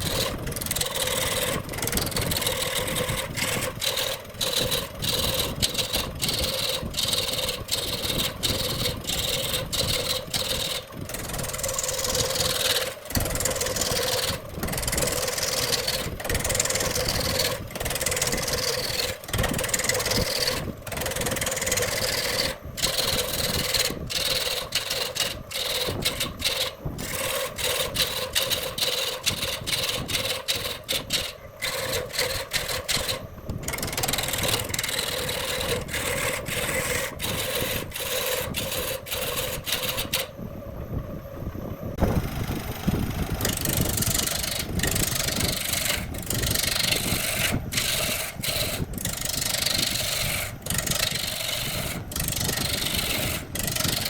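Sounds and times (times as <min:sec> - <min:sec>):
tool scraping spinning wood: 0:00.0 - 0:40.5, 0:41.9 - 0:54.0
lathe motor hum: 0:00.0 - 0:54.0.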